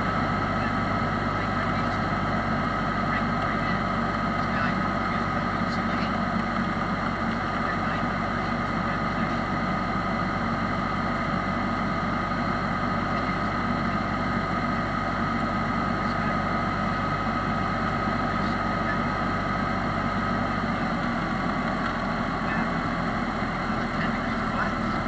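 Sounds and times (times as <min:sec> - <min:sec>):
high whine: 0:00.0 - 0:25.0
propeller plane engine droning: 0:00.0 - 0:25.0.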